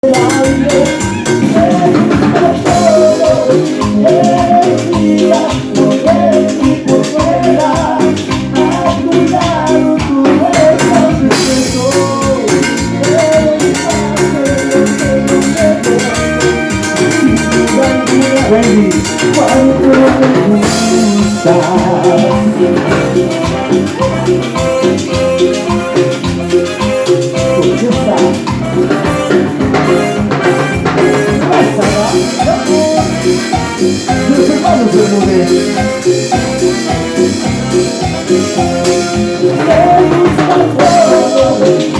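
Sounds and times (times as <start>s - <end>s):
held keyboard or horn tones: 0.0s - 41.9s
latin dance band playing: 0.0s - 41.9s
percussion beat: 0.0s - 41.9s.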